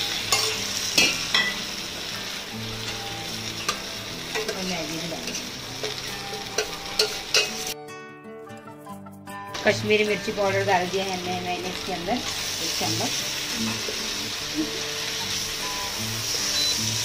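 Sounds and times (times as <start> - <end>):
vegetables sizzling in oil: 0.0 - 7.8, 9.6 - 17.0.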